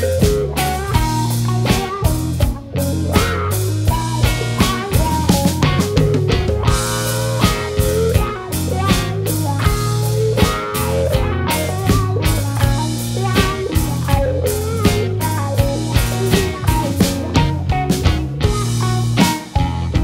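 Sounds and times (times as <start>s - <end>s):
bass guitar notes: 0.0s - 20.0s
drum kit hits: 0.0s - 20.0s
electric guitar: 0.0s - 20.0s.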